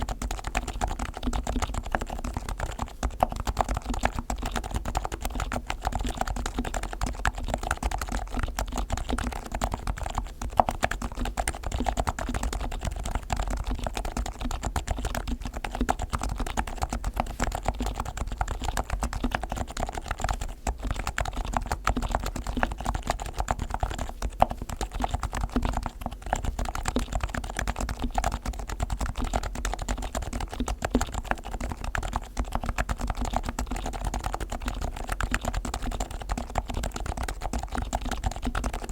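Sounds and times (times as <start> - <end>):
fast typing on a keyboard: 0.0 - 38.9.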